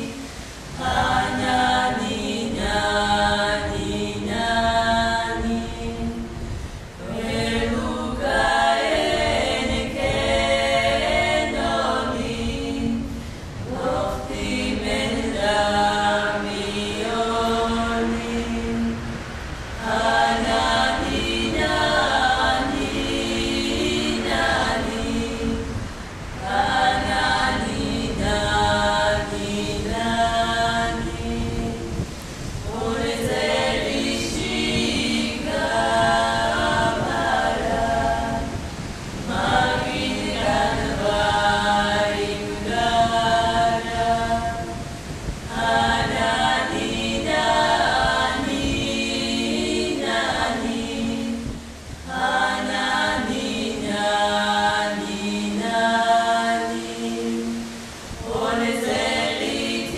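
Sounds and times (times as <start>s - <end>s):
low held vocal drone: 0.0s - 59.9s
women singing a cappella harmony: 0.0s - 59.9s.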